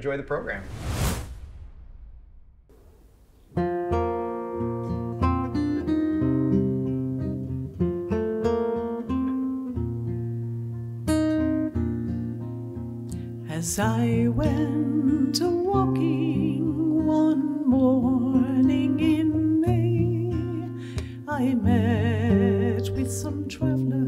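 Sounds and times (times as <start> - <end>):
acoustic guitar plucking: 3.5 - 24.0.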